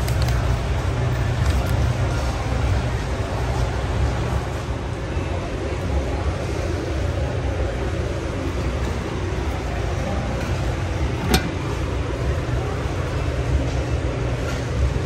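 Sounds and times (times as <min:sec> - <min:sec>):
store ambience murmur: 0:00.0 - 0:15.0.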